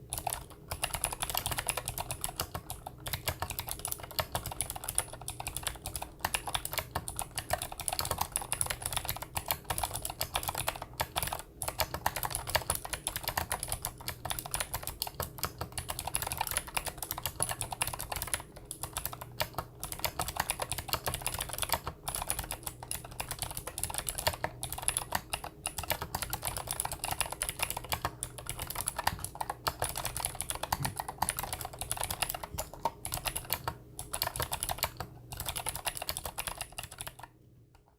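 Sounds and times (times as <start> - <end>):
fast mechanical keyboard typing: 0.0 - 37.9.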